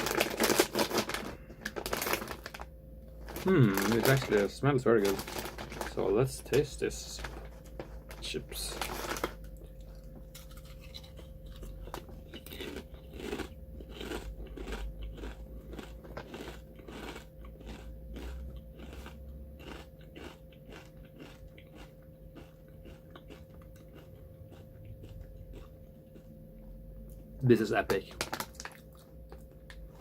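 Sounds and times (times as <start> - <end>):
crunching potato chips: 0.0 - 26.3, 27.5 - 30.0.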